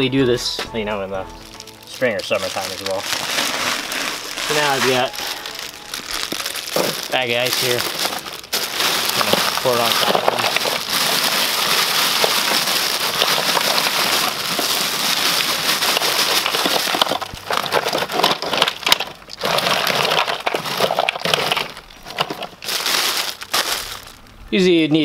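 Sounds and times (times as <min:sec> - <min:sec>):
ice cubes clattering into cooler: 0:01.4 - 0:24.2
plastic bag crinkling: 0:01.4 - 0:24.3.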